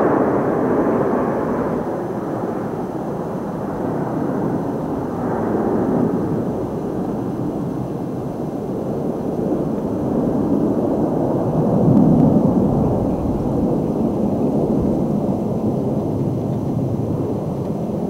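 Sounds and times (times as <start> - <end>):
jet airliner engine rumble: 0.0 - 18.0.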